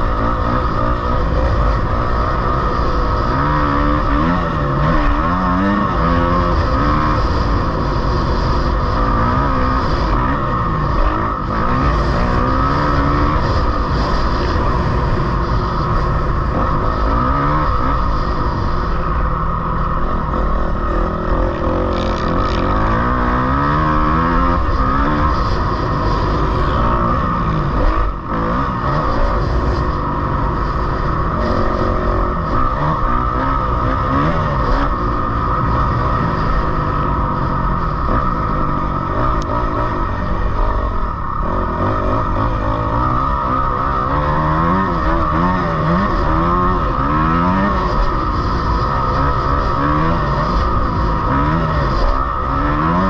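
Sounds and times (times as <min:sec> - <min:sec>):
off-road engine revving: 0:00.0 - 0:53.0
steady rushing noise: 0:00.0 - 0:53.0.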